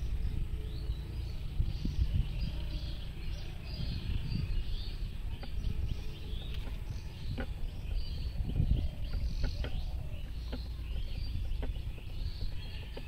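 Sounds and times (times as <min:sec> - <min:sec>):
low uneven rumble: 0:00.0 - 0:13.0
small birds chirping: 0:00.0 - 0:13.0.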